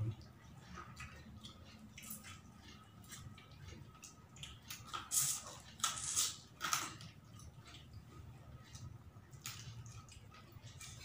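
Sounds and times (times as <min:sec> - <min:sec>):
man chewing and smacking lips: 0:00.0 - 0:11.0.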